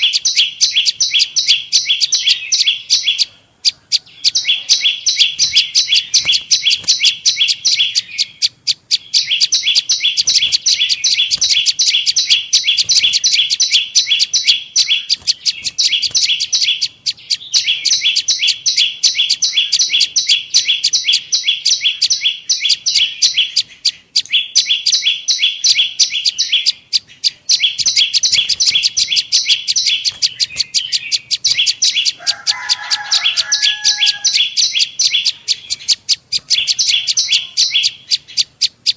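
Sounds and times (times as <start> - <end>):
lower-pitched bird call: 0.0 - 38.9
high bird chip notes: 4.0 - 38.9.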